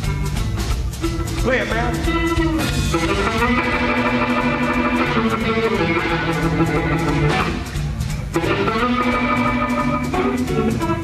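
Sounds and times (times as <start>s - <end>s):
blues band playing: 0.0s - 11.0s
electric guitar solo: 1.9s - 11.0s.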